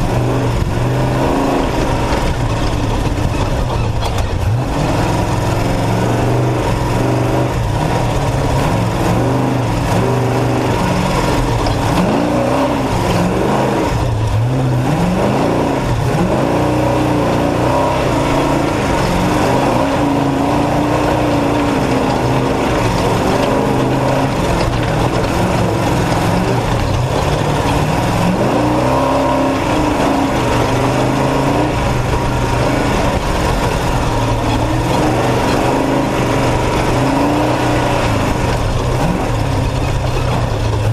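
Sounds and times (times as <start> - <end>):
race truck engine revving: 0.0 - 40.9.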